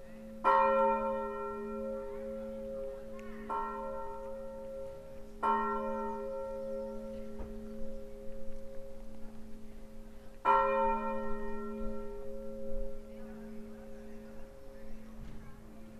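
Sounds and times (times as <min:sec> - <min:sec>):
church bell ringing: 0:00.0 - 0:15.9.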